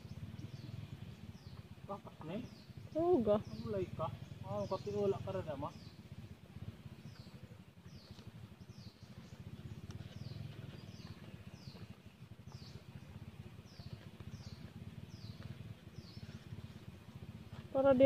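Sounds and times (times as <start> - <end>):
bird chirping: 0.0 - 18.0
low rumbling background noise: 0.0 - 18.0.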